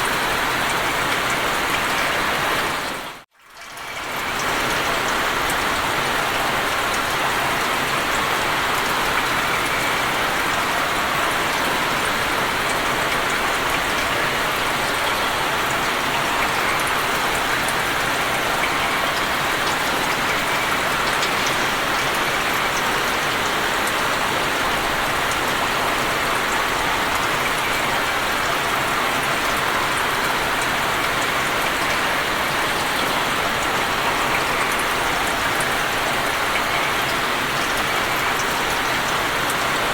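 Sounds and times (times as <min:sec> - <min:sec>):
rain hissing on water: 0:00.0 - 0:39.9.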